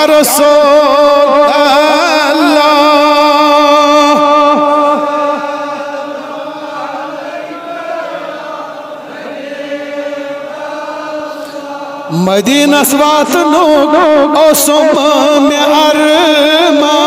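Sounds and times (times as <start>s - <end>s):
man chanting: 0.0s - 9.1s, 9.7s - 17.0s.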